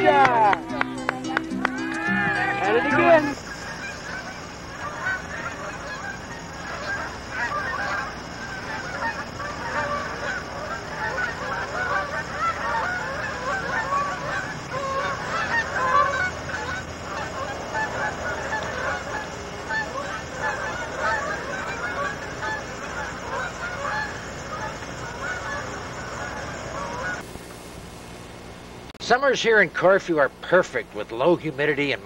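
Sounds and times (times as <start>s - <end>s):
geese honking: 0.0s - 27.2s.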